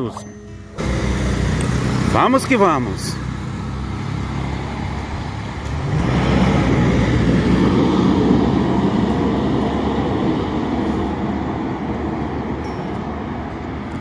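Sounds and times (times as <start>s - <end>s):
street traffic: 0.0s - 14.0s
pickup truck driving past: 0.7s - 13.3s.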